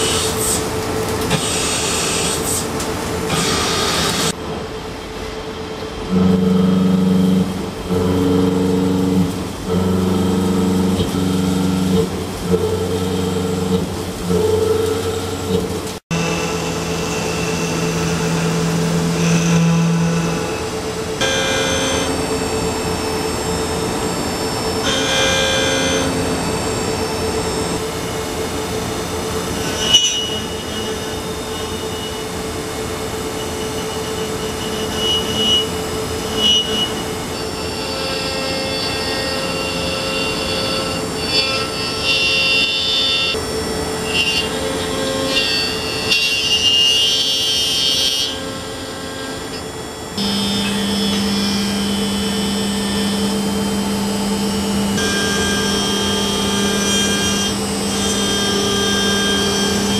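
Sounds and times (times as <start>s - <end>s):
high-pitched cutting whine: 0.0s - 59.9s
machine hum: 0.0s - 59.9s.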